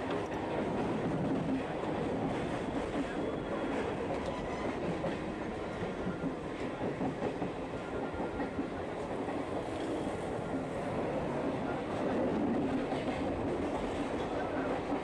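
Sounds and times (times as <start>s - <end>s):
train wheels on track: 0.0s - 15.0s.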